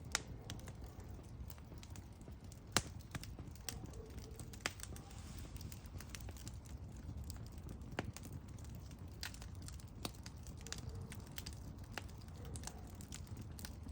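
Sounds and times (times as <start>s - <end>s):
campfire crackling and popping: 0.0s - 13.9s.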